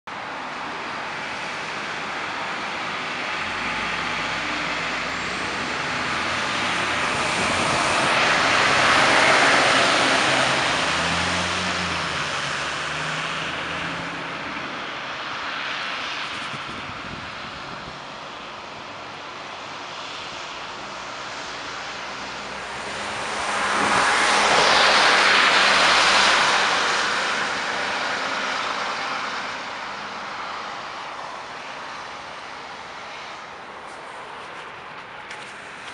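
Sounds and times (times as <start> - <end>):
diesel engines passing: 0.1 - 35.9
tyres hissing on wet road: 0.2 - 16.6, 17.3 - 35.9.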